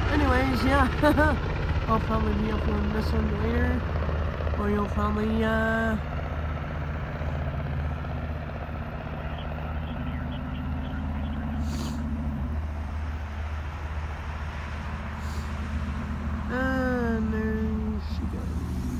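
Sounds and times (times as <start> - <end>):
low engine drone: 0.0 - 18.9.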